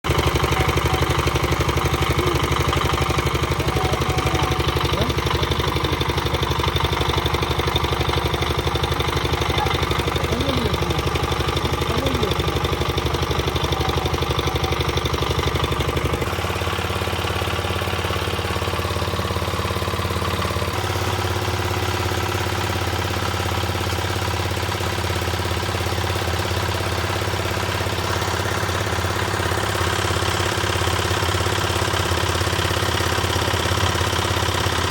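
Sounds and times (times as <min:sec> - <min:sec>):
concrete mixer engine running: 0:00.0 - 0:34.9.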